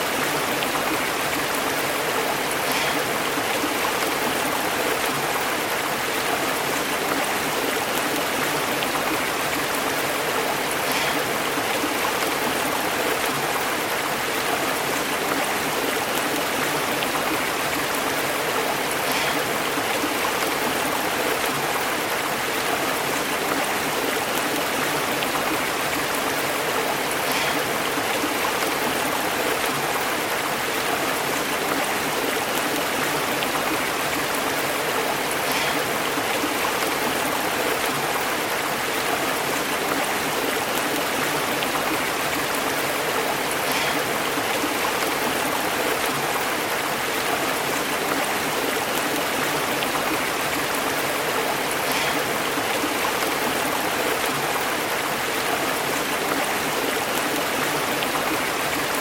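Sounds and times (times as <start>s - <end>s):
stream water flowing over rocks: 0.0s - 59.0s.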